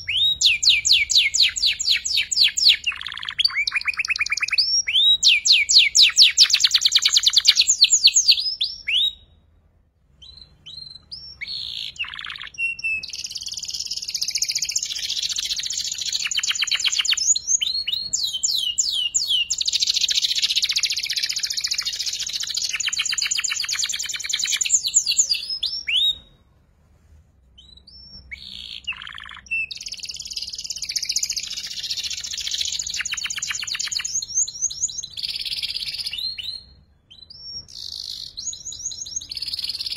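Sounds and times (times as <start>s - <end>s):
canary singing trills: 0.0s - 9.4s, 10.2s - 26.4s, 27.6s - 39.9s.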